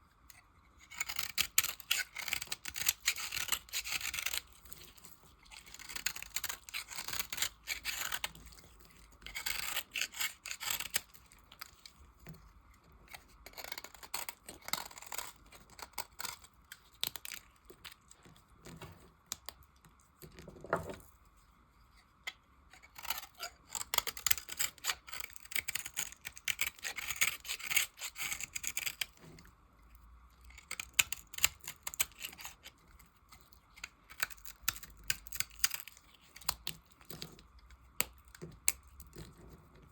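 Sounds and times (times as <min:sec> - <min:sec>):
blade shaving dry soap: 0:00.3 - 0:18.6, 0:22.3 - 0:29.5, 0:30.4 - 0:39.9.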